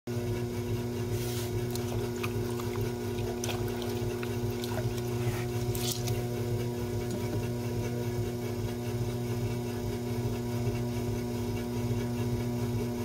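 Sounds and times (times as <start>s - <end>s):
potter's wheel motor humming: 0.1s - 13.0s.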